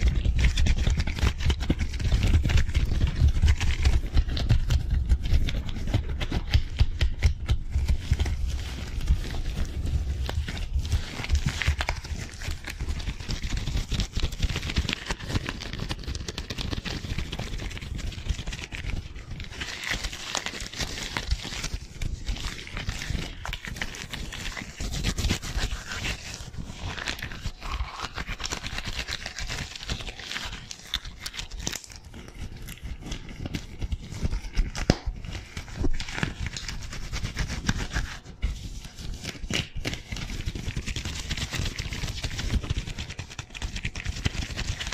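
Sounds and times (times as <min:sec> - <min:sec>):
gloves rubbing and tapping on microphone: 0:00.0 - 0:44.9.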